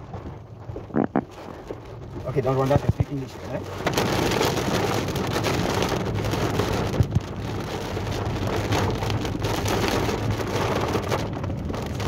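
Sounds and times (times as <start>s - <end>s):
heavy rain on a car: 0.0s - 12.0s
low hum of moving car: 0.0s - 12.0s.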